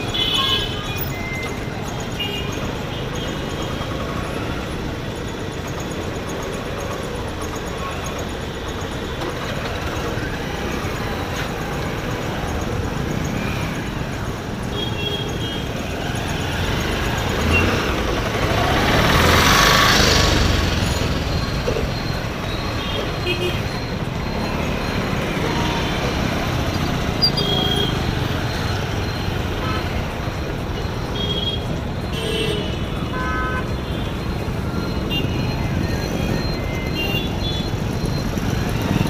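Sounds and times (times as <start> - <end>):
motorbike and scooter engines: 0.0 - 39.0
road noise: 0.0 - 39.0.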